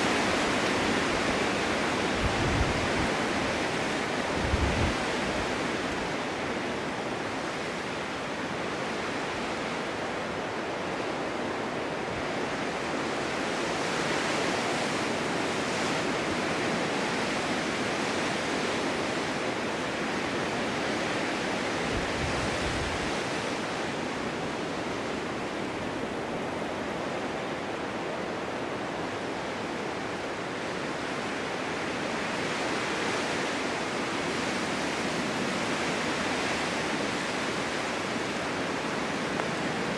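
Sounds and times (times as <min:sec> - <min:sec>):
snowstorm wind blowing: 0:00.0 - 0:39.9.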